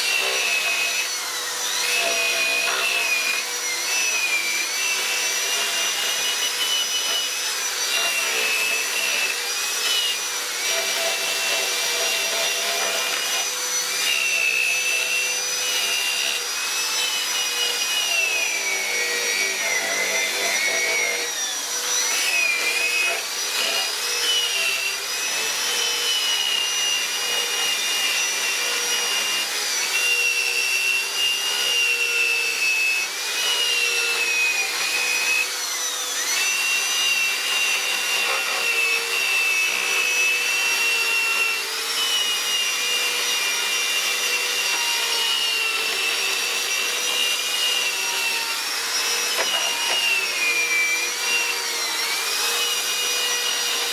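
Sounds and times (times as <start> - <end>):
die grinder whining on wood: 0.0 - 53.9.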